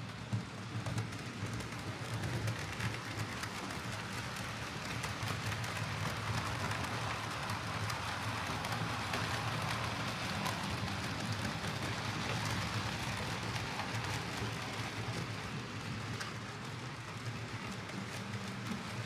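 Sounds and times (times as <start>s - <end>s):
crackly rattle of wheels: 0.1s - 19.0s.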